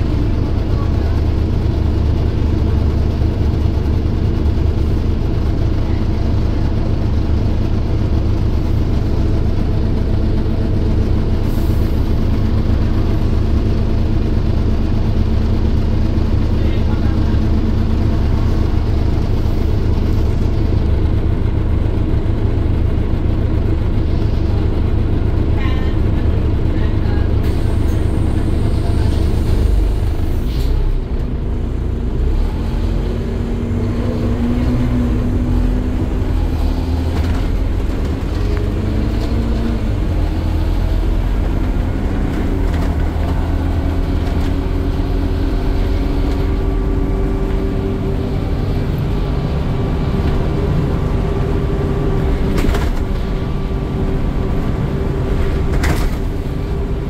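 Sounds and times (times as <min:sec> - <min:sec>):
bus body rattling: 0:00.0 - 0:32.0, 0:32.7 - 0:57.0
bus diesel engine rumble: 0:00.0 - 0:57.0.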